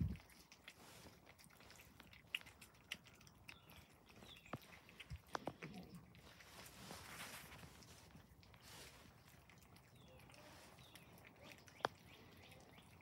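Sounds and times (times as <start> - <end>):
cats chewing and lapping: 0.0 - 13.0.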